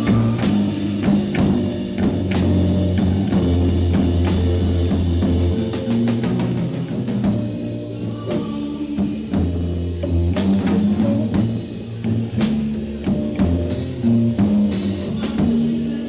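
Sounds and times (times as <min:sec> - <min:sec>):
drum hits: 0:00.0 - 0:16.0
held bass notes: 0:00.0 - 0:16.0
rock trio playing: 0:00.0 - 0:16.0.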